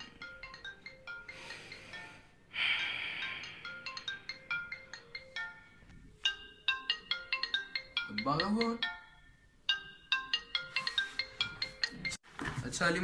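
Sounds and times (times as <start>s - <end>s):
mobile phone ringtone: 0.0s - 12.2s.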